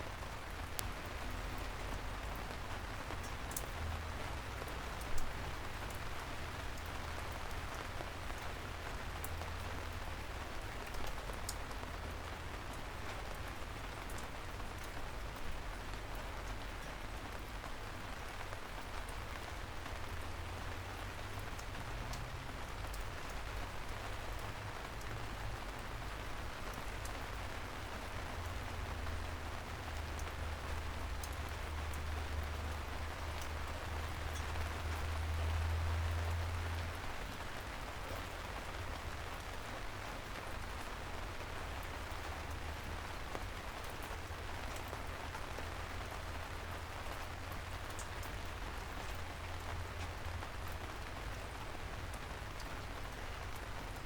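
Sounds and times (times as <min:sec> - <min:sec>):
raindrops ticking: 0:00.0 - 0:54.0
soft rain falling: 0:00.0 - 0:54.0.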